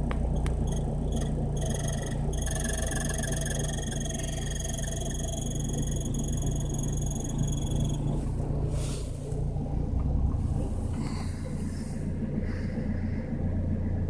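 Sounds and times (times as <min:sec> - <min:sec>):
car engine rumble: 0:00.0 - 0:14.0
heater fan whine: 0:00.0 - 0:14.0.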